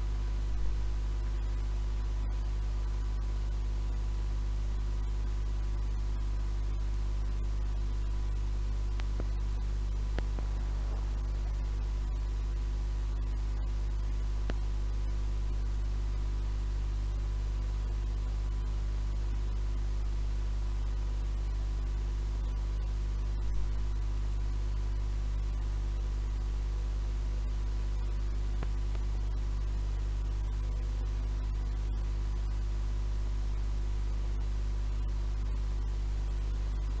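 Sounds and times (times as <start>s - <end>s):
low mains hum: 0.0s - 37.0s
tape hiss: 0.0s - 37.0s.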